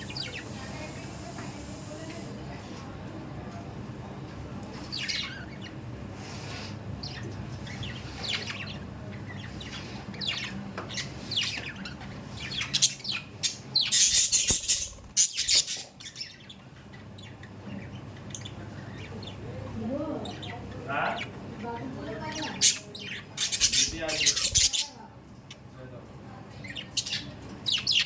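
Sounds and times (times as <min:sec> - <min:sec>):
budgerigars chirping and squawking: 0:00.0 - 0:01.2, 0:04.8 - 0:25.6, 0:26.5 - 0:28.0.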